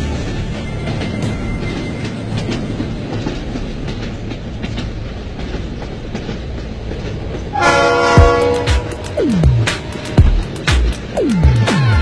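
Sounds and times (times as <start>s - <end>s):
rail joint clicks: 0.0s - 12.0s
train wheels rumbling on track: 0.0s - 12.0s.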